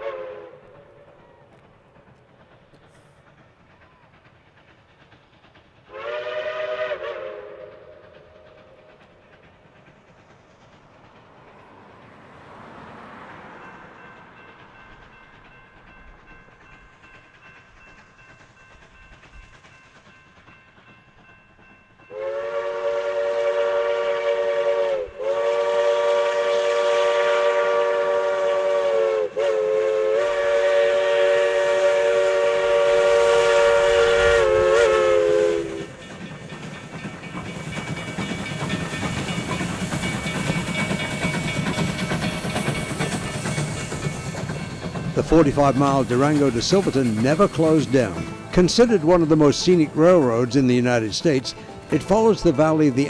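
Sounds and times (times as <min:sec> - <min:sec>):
steam locomotive chime whistle: 0:00.0 - 0:02.2, 0:05.9 - 0:09.9, 0:11.2 - 0:53.0.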